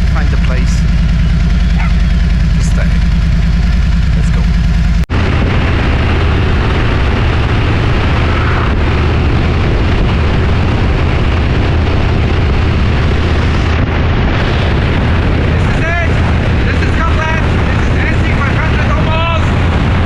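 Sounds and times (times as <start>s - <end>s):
motorcycle engine idling: 0.0s - 20.0s
motorcycle engine riding: 0.0s - 20.0s
wind rush over microphone: 0.0s - 20.0s.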